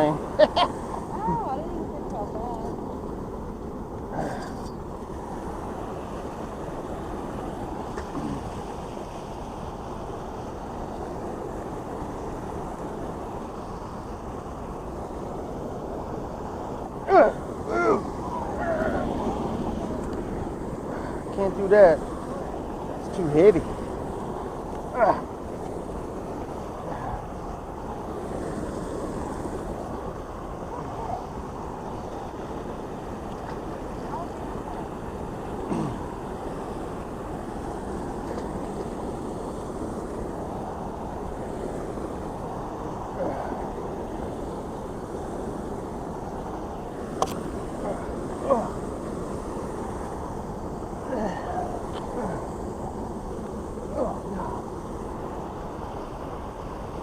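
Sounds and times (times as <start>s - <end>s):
water rushing over waterfall: 0.0s - 57.0s.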